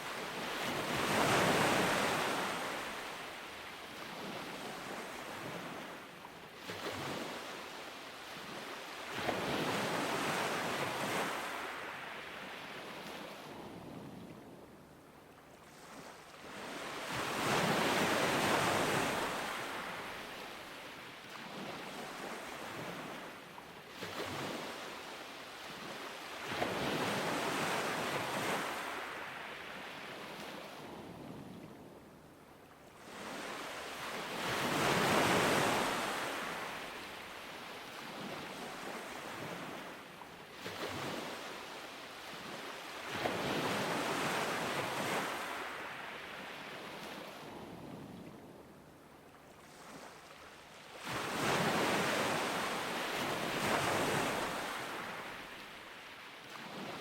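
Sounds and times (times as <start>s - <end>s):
waves breaking on beach: 0.0s - 14.2s, 15.5s - 31.6s, 32.9s - 48.4s, 49.4s - 57.0s.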